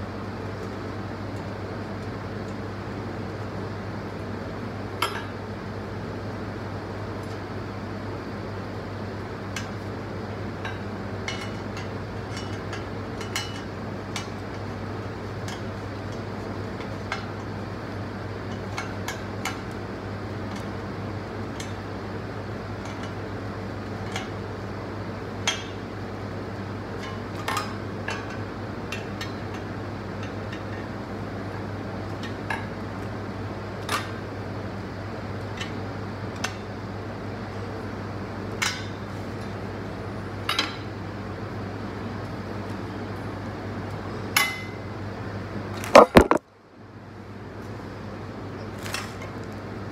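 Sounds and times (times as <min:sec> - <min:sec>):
steady low hum: 0:00.0 - 0:48.6.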